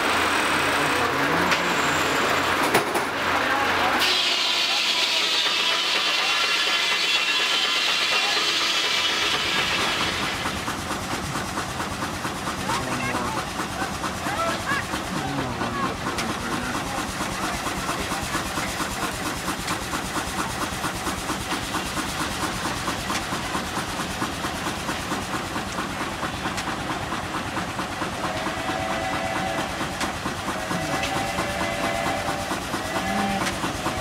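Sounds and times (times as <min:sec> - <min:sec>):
steam engine exhaust chuffing: 0:00.0 - 0:34.0
steady steam hiss: 0:03.9 - 0:34.0.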